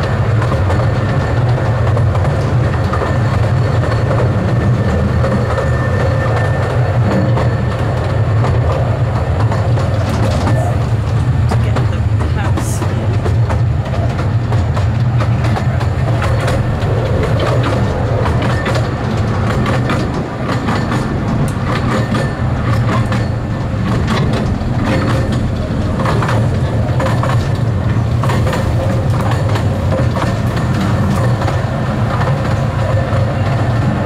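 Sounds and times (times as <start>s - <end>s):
train rumbling on track: 0.0s - 34.0s
wheels clacking over rails: 0.0s - 34.0s.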